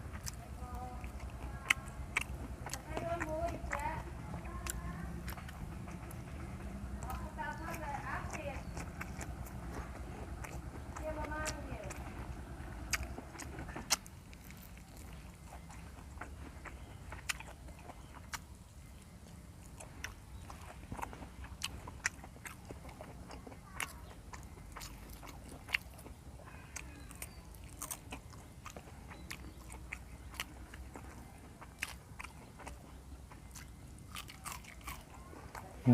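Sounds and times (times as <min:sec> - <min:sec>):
chewing raw vegetables: 0:00.0 - 0:35.9.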